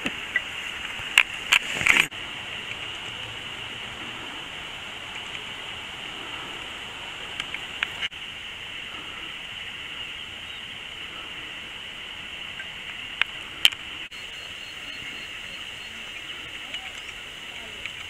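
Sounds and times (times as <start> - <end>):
steady high-pitched hiss: 0.0 - 18.0.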